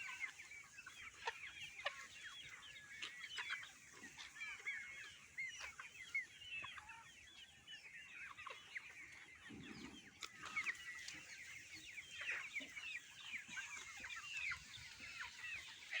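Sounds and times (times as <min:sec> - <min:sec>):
chickens calling: 0:00.0 - 0:16.0.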